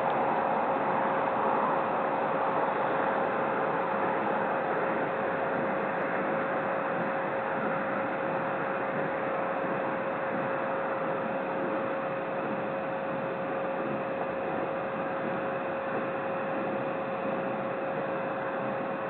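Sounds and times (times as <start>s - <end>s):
electronic hiss and hum: 0.0s - 19.0s.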